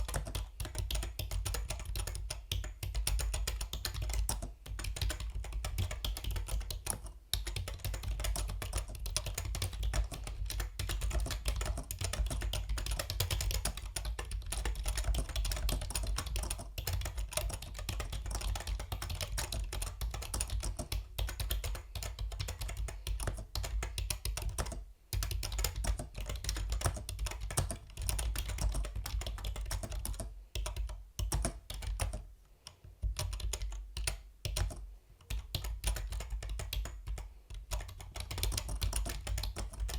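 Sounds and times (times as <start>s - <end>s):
mechanical keyboard typing: 0.0s - 32.2s, 33.0s - 39.9s.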